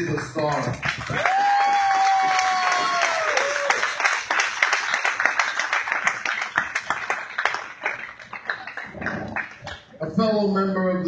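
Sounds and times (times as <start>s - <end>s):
small crowd clapping: 0.0s - 10.0s.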